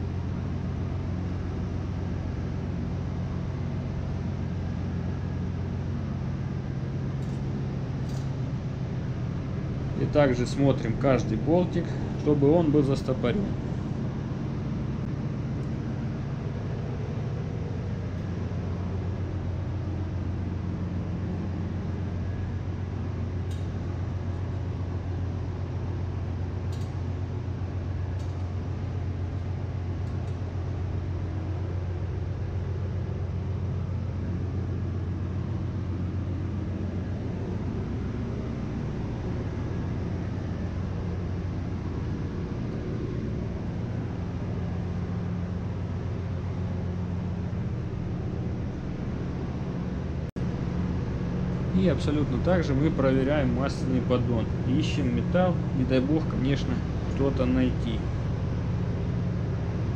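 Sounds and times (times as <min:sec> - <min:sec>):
engine-room machinery drone: 0:00.0 - 0:59.9.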